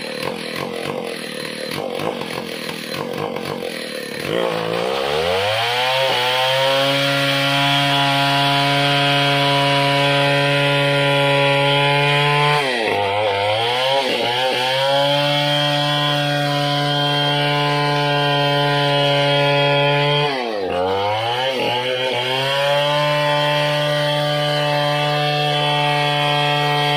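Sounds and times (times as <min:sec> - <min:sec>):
chainsaw cutting log: 0:00.0 - 0:26.9.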